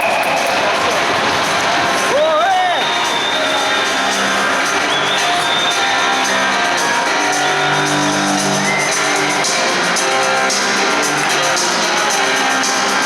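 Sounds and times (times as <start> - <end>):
rock music over sound system: 0.1 - 13.0.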